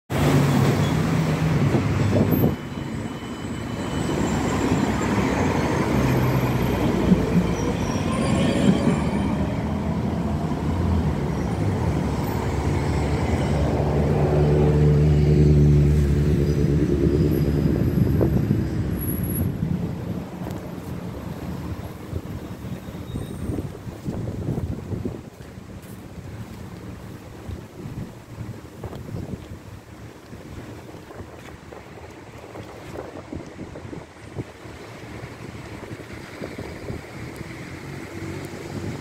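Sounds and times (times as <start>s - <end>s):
tram electric hum: 0.1s - 39.0s
tram rumbling: 0.1s - 39.0s
tram wheels rolling: 0.1s - 39.0s.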